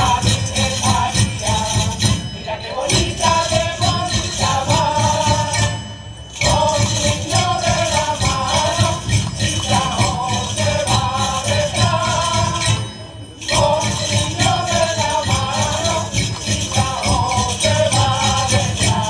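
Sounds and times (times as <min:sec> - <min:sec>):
group of singers: 0:00.0 - 0:19.0
jingling shaken percussion: 0:00.0 - 0:19.0.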